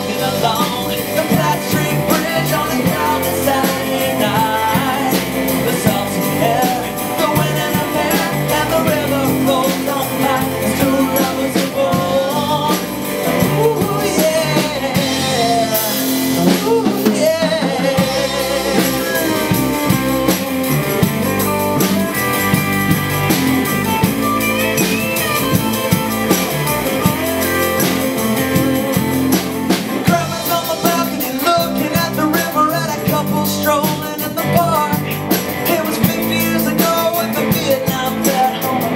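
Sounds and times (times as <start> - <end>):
live band playing: 0.0 - 38.9
person singing: 0.0 - 38.9.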